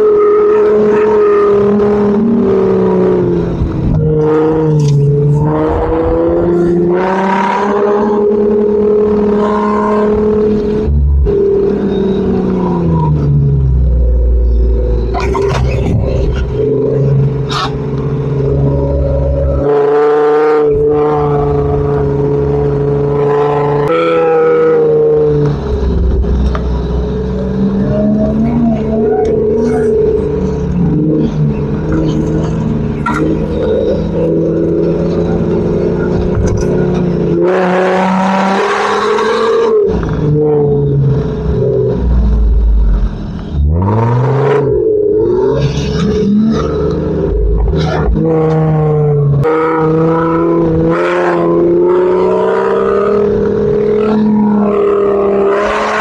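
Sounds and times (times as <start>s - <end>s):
off-road engine working hard: 0.0s - 56.0s.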